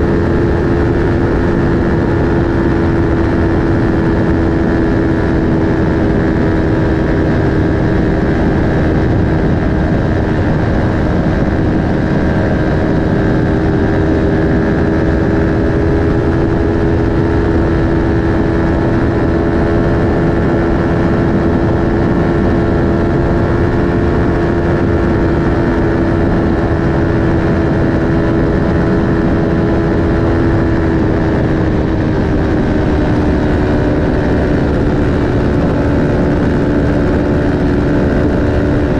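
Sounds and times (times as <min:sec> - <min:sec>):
motorcycle engine cruising: 0:00.0 - 0:38.9
wind rush: 0:00.0 - 0:38.9.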